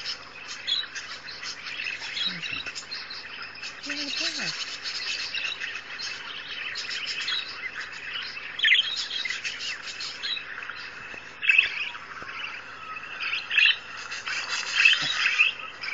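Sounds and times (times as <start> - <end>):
birdsong from a laptop: 0.0 - 15.9.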